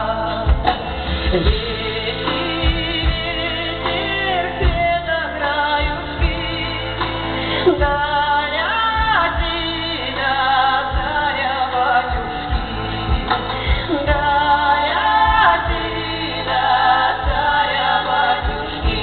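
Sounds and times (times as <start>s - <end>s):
instrumental accompaniment: 0.0s - 19.0s
woman singing: 0.0s - 19.0s.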